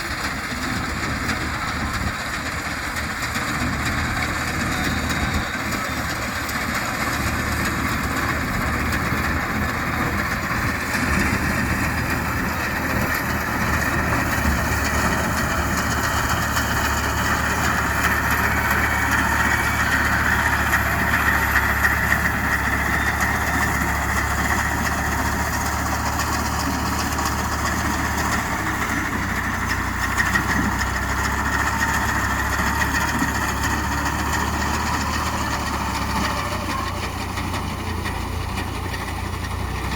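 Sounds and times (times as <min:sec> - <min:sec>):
reaper mechanical rattle: 0:00.0 - 0:39.9
tractor engine running: 0:00.0 - 0:39.9.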